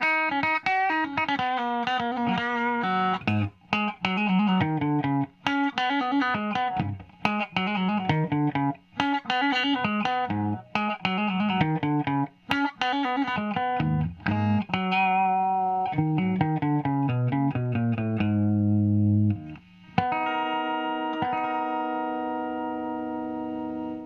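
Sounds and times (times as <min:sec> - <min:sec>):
electric guitar riff: 0:00.0 - 0:24.0.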